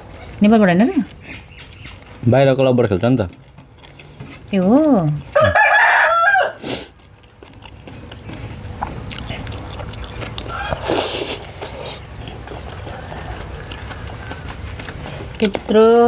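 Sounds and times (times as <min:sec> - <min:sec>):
person chewing and biting food: 0:01.1 - 0:15.7.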